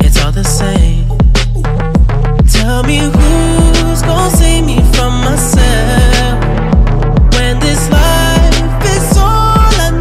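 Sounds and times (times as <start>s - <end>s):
deep kick drum: 0.0s - 10.0s.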